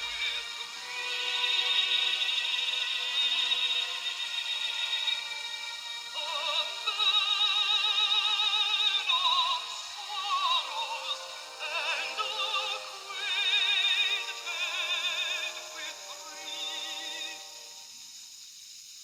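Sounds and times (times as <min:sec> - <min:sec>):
high singing voice with vibrato: 0:00.0 - 0:05.5, 0:06.1 - 0:17.8
background music: 0:00.0 - 0:18.0.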